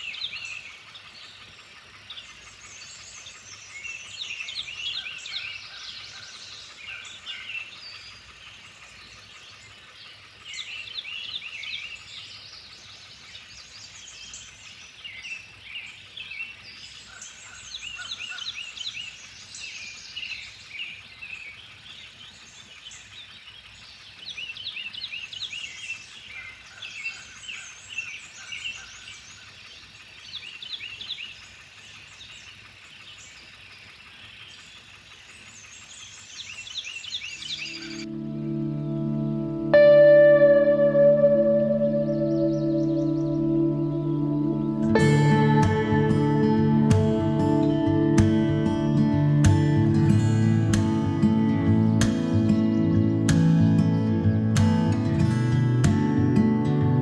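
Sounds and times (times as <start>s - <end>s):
faint outdoor hiss: 0.0s - 57.0s
songbirds chirping and trilling: 0.0s - 57.0s.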